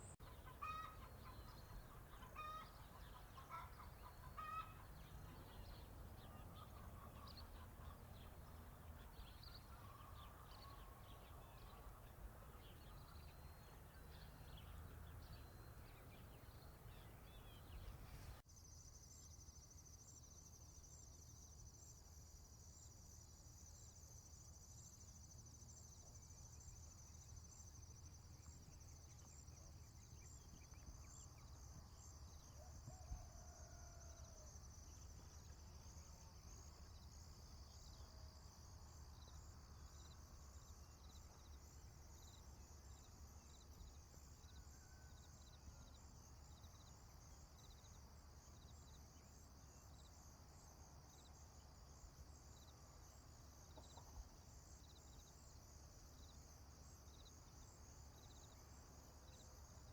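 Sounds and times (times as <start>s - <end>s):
insects trilling: 0.0s - 15.8s, 18.6s - 59.9s.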